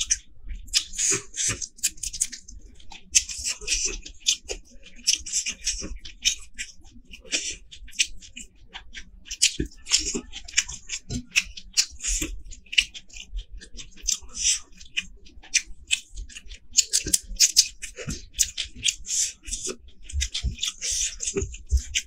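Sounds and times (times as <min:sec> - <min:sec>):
chewing with crisp crackles: 0:00.0 - 0:22.0.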